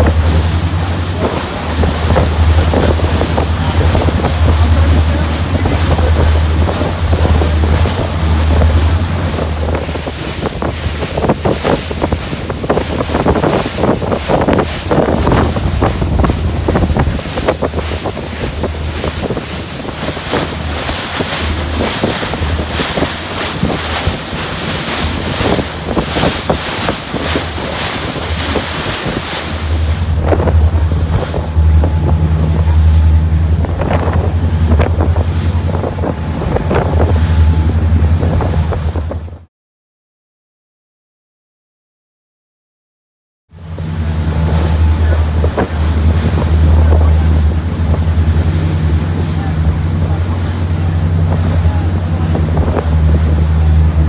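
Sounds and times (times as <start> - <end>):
motorboat engine droning: 0.0 - 39.5, 43.5 - 54.0
water rushing past hull: 0.0 - 39.5, 43.5 - 54.0
wind buffeting microphone: 0.0 - 39.5, 43.6 - 54.0.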